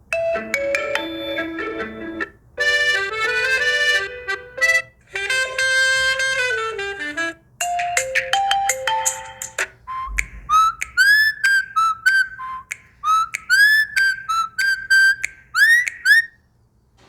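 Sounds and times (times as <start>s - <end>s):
electronic ringtone melody: 0.1s - 6.8s, 7.6s - 12.4s, 13.1s - 16.3s.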